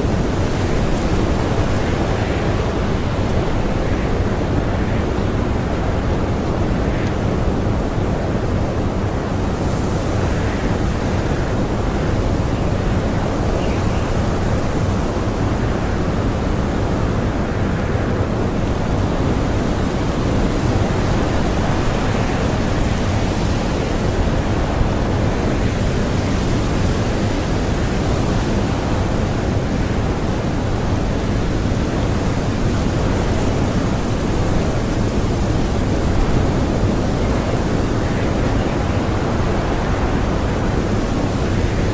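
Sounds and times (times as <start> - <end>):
strong blizzard wind: 0.0 - 41.9.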